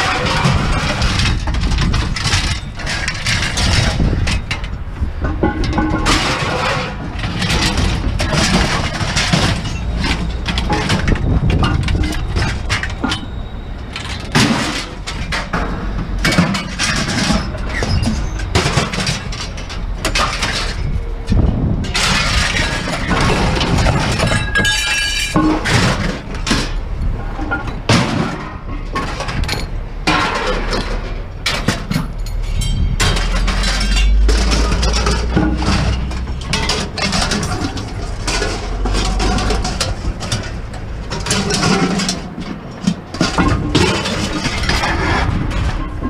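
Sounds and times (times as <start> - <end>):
scrap clanking and clattering: 0.0 - 46.0.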